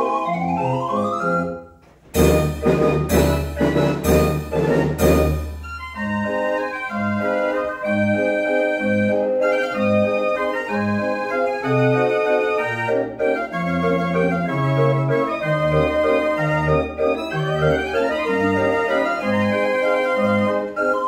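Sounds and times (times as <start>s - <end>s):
street organ playing a tune: 0.0s - 21.0s.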